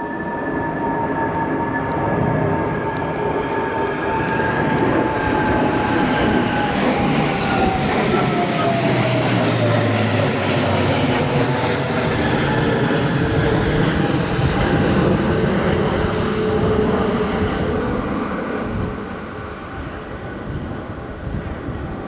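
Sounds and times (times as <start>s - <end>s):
jets flying past overhead: 0.2s - 22.0s.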